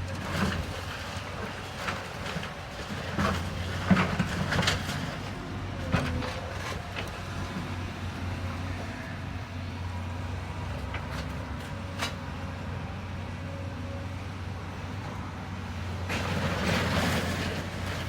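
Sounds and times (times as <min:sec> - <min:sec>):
demolition machine engine humming: 0:00.0 - 0:18.0.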